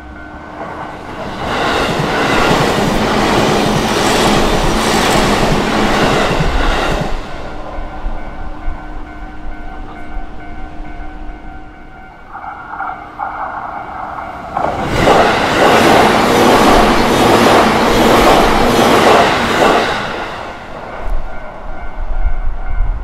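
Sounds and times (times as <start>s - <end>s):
crossing warning bells ringing: 0.0s - 23.0s
electric train passing: 0.0s - 23.0s.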